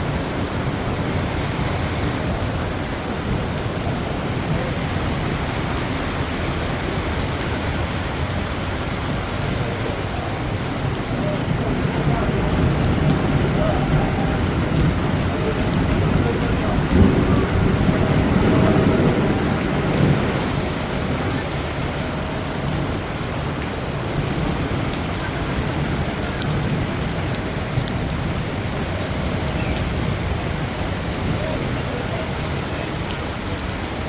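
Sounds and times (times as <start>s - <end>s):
heavy rain falling: 0.0s - 34.0s
thunder rumble: 0.0s - 34.0s.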